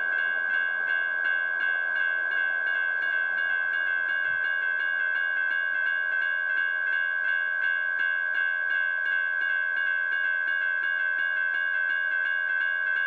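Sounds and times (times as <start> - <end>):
railroad crossing bell ringing: 0.0 - 13.0.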